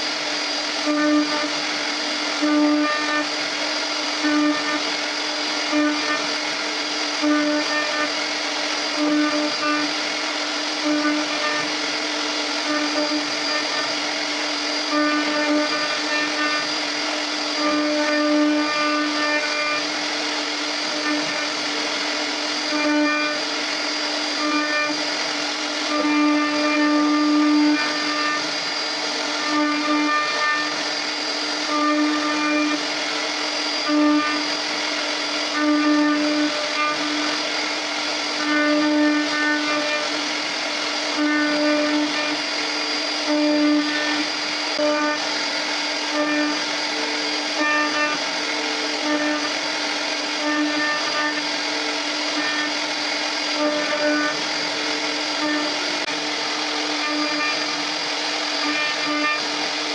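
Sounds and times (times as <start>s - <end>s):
router spindle whining: 0.0s - 59.9s.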